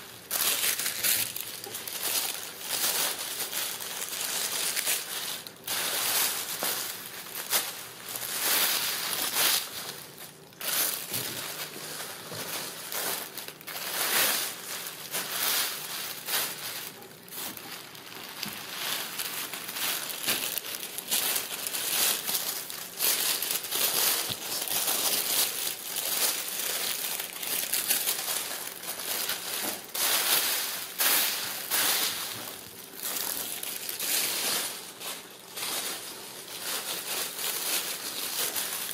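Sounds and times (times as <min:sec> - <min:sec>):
paper crinkling and rustling: 0:00.0 - 0:38.9.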